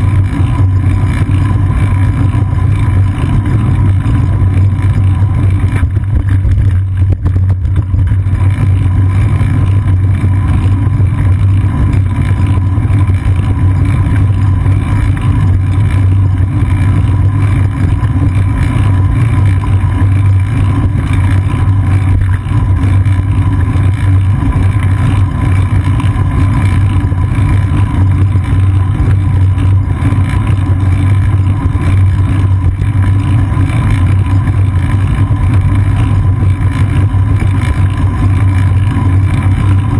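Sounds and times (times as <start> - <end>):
bicycle ride vibration rumble: 0.0 - 39.9.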